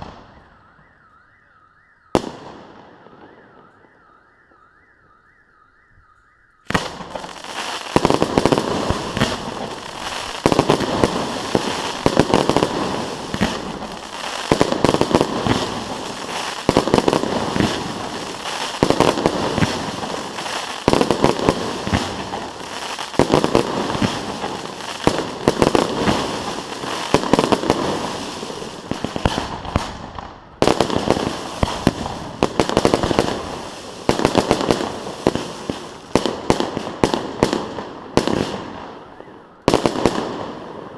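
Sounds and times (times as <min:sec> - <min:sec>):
fireworks crackling and banging: 0:00.0 - 0:00.5, 0:02.1 - 0:03.9, 0:06.6 - 0:40.9
heavy fireworks booms: 0:00.0 - 0:00.6, 0:02.1 - 0:03.9, 0:06.6 - 0:40.9.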